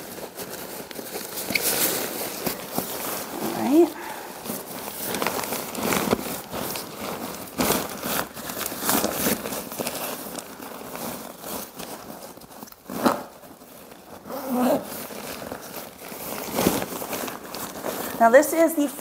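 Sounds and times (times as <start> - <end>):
tent fabric rustling: 0.0 - 19.0
zipper being worked: 0.3 - 18.4.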